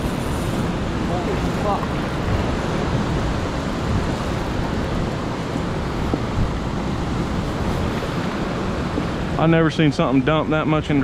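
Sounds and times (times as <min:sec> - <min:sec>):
water rushing and churning: 0:00.0 - 0:11.0.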